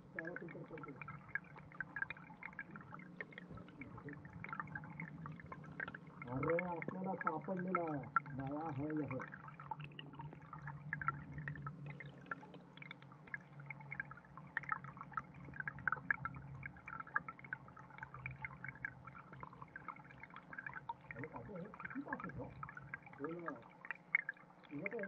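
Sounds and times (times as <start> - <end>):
stream water heard underwater: 0.0 - 25.0.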